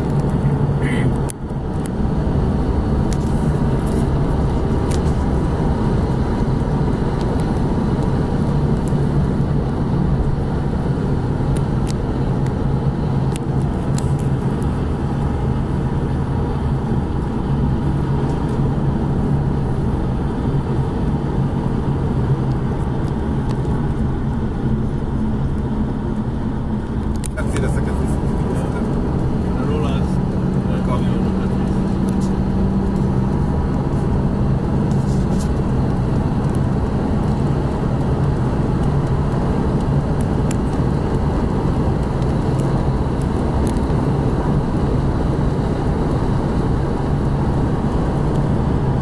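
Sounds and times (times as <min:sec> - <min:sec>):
car engine drone: 0:00.0 - 0:49.0
road noise: 0:00.0 - 0:49.0.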